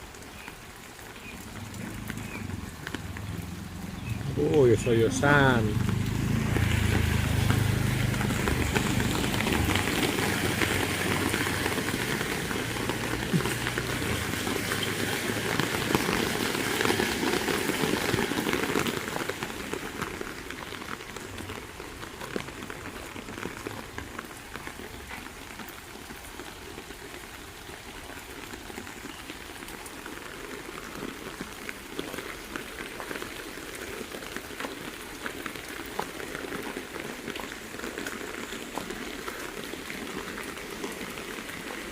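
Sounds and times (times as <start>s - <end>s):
heavy rain hissing: 0.0s - 41.9s
raindrop ticks: 0.0s - 41.9s.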